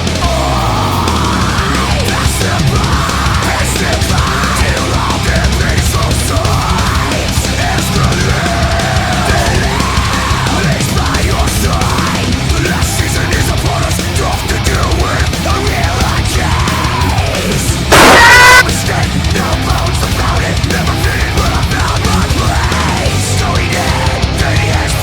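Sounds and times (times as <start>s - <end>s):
drums: 0.0s - 25.0s
heavy rock music: 0.0s - 25.0s.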